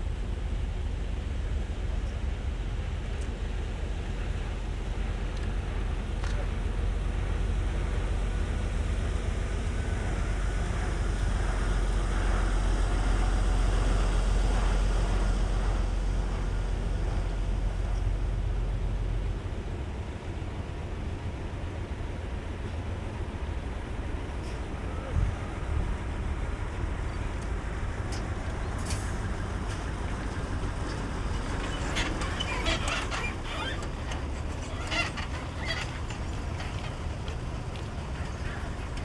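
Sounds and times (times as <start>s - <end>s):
heavy truck engine rumbling: 0.0s - 39.0s.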